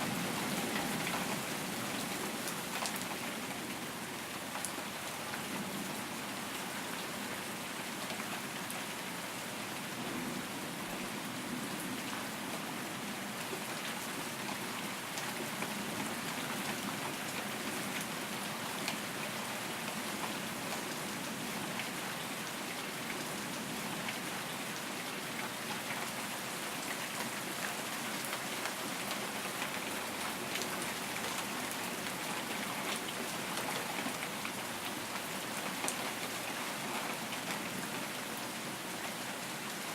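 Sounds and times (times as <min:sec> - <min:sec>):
steady rain: 0:00.0 - 0:39.9
raindrops ticking on a surface: 0:00.1 - 0:09.1, 0:10.9 - 0:39.9.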